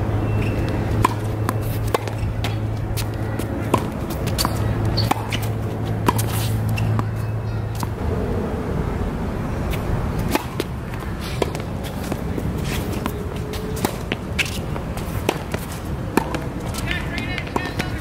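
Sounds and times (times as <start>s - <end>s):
low steady hum: 0.0s - 18.0s
tennis ball bouncing on court: 0.4s - 8.0s, 10.2s - 18.0s
tennis ball hit by racket: 0.7s - 8.0s, 9.7s - 18.0s.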